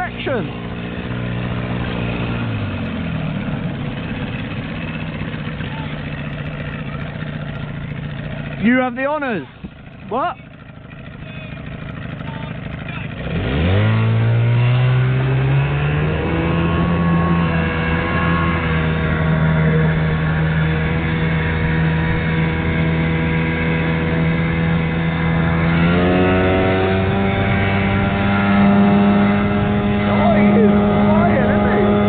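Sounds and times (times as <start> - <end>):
outboard motor: 0.0 - 32.0.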